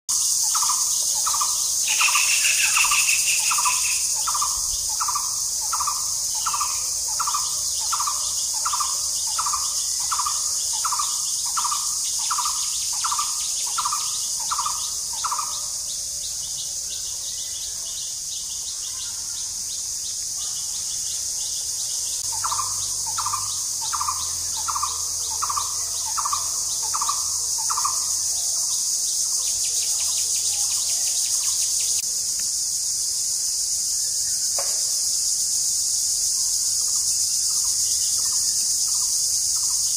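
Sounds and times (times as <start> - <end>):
high-pitched insect drone: 0.1 - 39.9.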